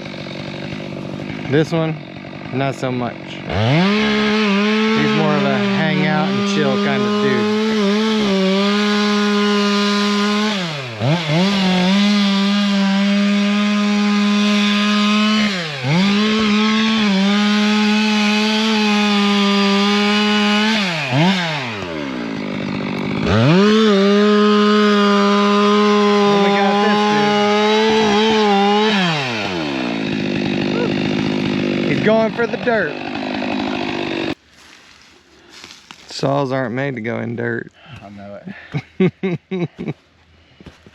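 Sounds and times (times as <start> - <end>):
chainsaw revving: 0.0 - 34.4.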